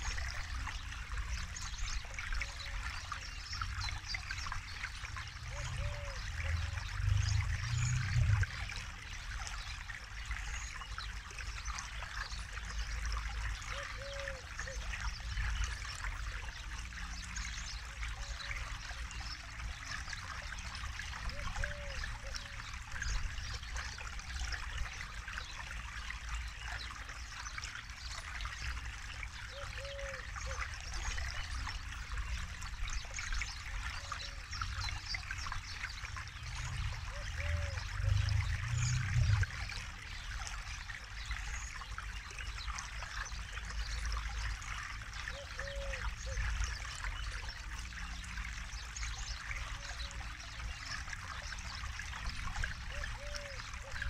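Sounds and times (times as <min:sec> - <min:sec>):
river water flowing over stones: 0:00.0 - 0:54.0.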